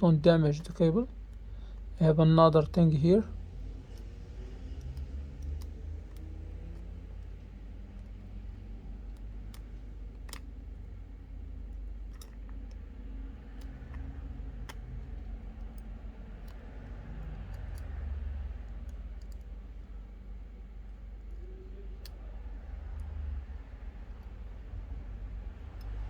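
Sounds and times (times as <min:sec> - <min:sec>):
metal tweezers clicking: 0:00.0 - 0:26.0
steady low hum: 0:00.0 - 0:26.0.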